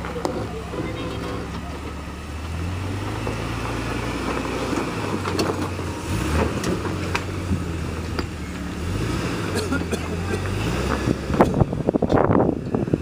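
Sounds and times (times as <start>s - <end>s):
car engine under load: 0.0s - 13.0s.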